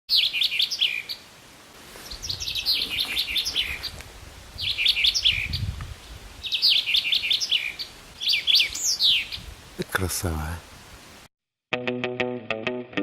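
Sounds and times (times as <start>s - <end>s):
songbirds chirping: 0.1s - 11.2s.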